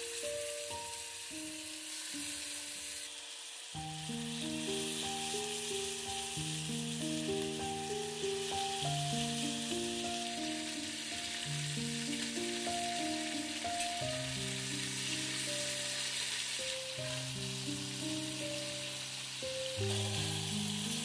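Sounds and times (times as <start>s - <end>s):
patties sizzling in oil: 0.0s - 21.0s
soft background music: 0.0s - 21.0s.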